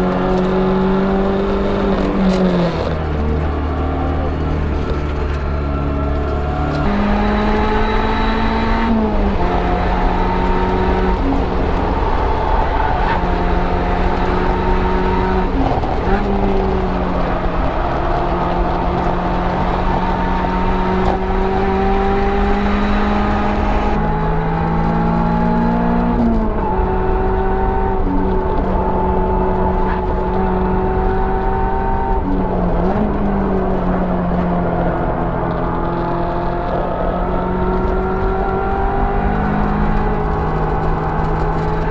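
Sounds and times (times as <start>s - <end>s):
car engine and drivetrain drone: 0.0s - 41.9s.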